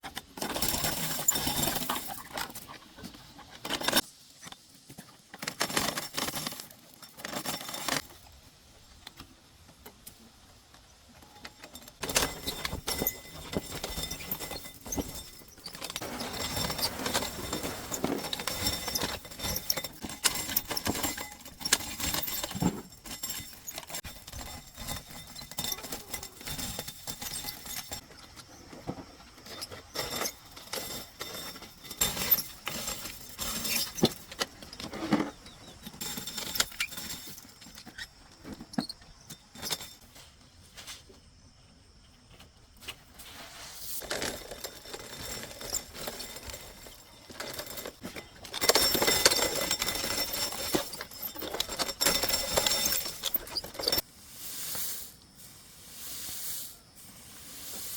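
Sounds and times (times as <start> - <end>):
dry corn rattling and rustling: 0.0 - 41.2, 42.8 - 57.9.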